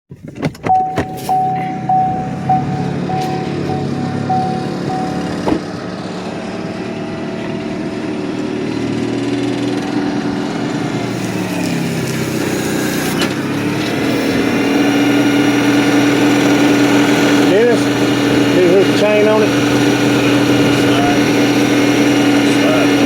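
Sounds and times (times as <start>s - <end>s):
motor humming: 0.7s - 23.0s.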